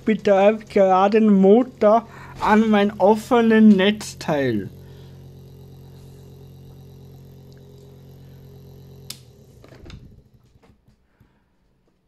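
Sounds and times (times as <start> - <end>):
electric motor humming: 0.0 - 11.4
motor running down with clicks: 0.0 - 11.5.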